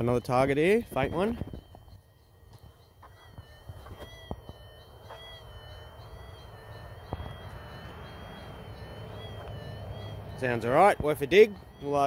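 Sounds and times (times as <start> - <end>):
metal detector continuous tone: 0.0 - 12.0.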